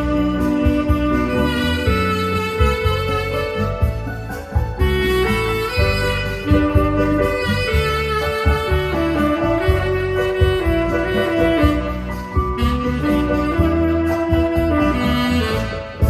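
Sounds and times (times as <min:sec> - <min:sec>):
keyboard accompaniment: 0:00.0 - 0:16.0
tenor saxophone melody: 0:00.0 - 0:16.0.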